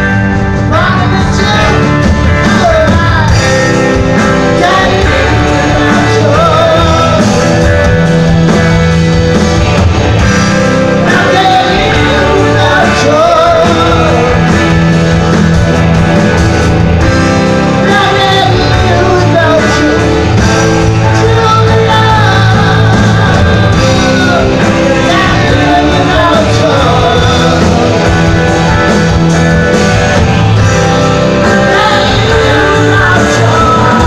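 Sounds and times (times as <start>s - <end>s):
bass guitar: 0.0s - 34.0s
drum kit: 0.0s - 34.0s
electric guitars: 0.0s - 34.0s
keyboards: 0.0s - 34.0s.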